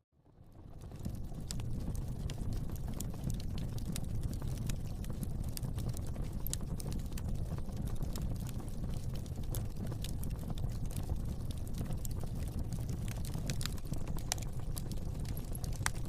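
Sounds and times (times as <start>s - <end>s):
low rumble of flames: 0.2s - 16.0s
fire crackling and popping: 0.4s - 16.0s.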